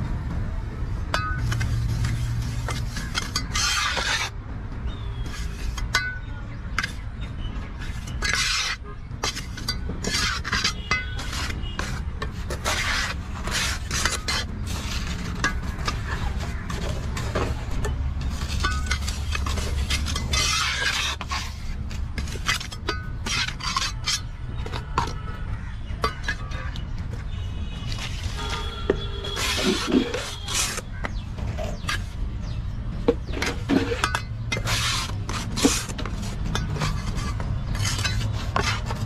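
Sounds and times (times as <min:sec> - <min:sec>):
trowel scraping concrete: 0:01.2 - 0:39.0.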